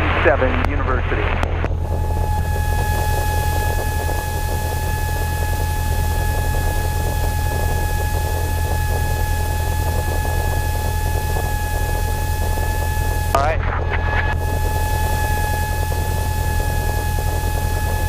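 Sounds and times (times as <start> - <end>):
high whine: 0.0 - 18.0
propeller engine droning: 0.0 - 18.0.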